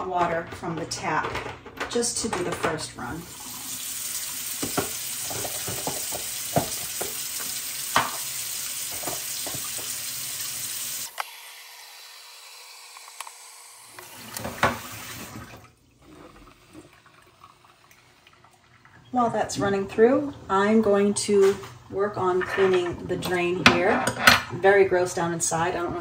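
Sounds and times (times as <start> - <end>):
kitchen tap running water: 3.0 - 25.9.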